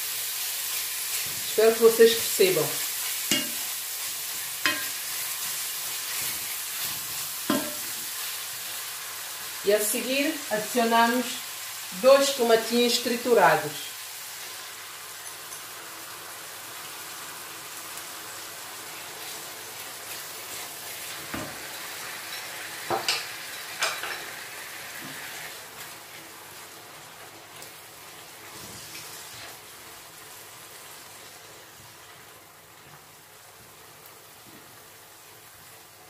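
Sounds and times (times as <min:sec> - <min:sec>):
tomatoes sizzling in oil: 0:00.0 - 0:36.0.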